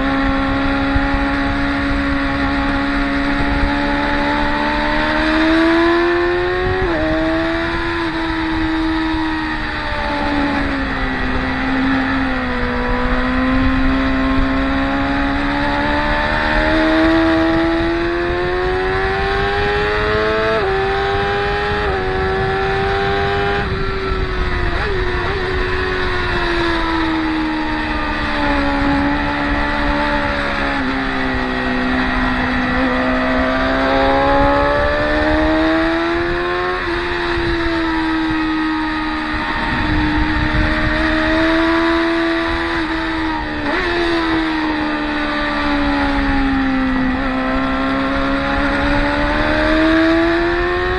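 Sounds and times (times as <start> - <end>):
sport motorcycles racing: 0.0 - 50.9.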